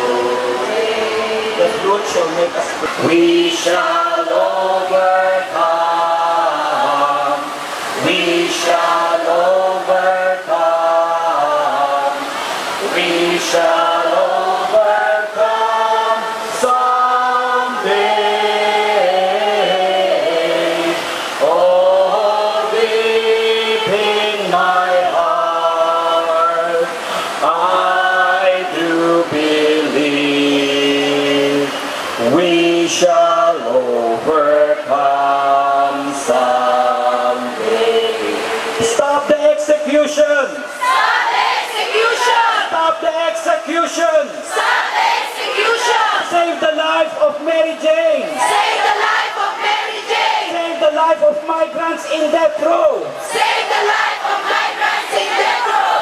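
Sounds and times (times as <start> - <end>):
group singing slow song: 0.0 - 39.0, 40.6 - 42.8, 44.4 - 46.4, 48.3 - 50.7, 53.1 - 56.0.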